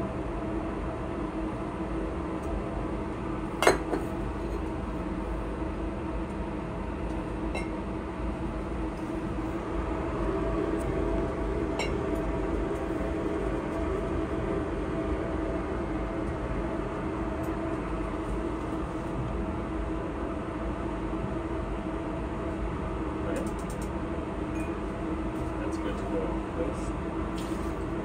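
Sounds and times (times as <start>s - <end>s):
ventilation drone with low hum: 0.0s - 28.0s.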